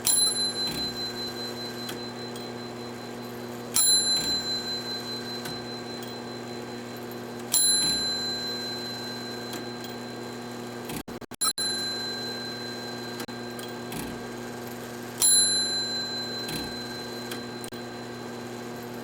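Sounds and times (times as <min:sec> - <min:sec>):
clock bell striking: 0:00.0 - 0:10.1, 0:11.6 - 0:14.3, 0:15.2 - 0:17.8.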